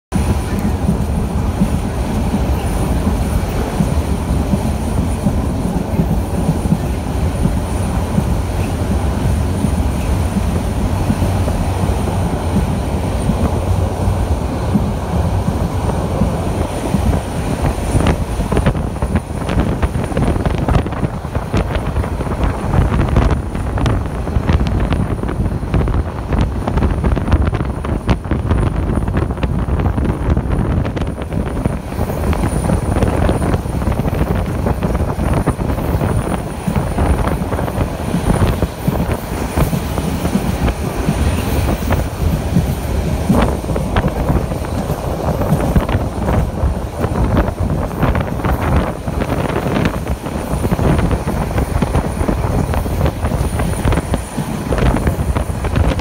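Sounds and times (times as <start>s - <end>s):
train wheels rumbling: 0.1s - 56.0s
wheels clattering on track: 0.1s - 56.0s.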